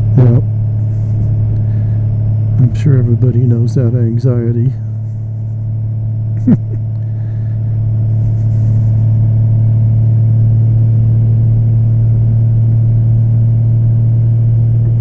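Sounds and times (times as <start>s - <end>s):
motorcycle engine and wind rumble: 0.0s - 15.0s.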